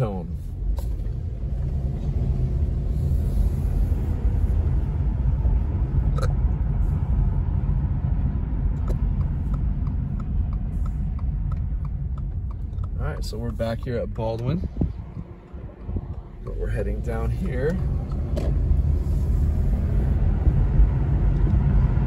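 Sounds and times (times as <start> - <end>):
car engine and tyres rumbling: 0.0 - 22.0
turn signal ticking: 3.5 - 22.0.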